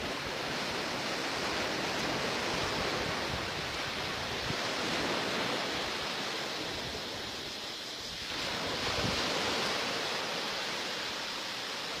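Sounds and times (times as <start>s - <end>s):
sea waves washing on shore: 0.0s - 12.0s
wind on the microphone: 0.0s - 12.0s.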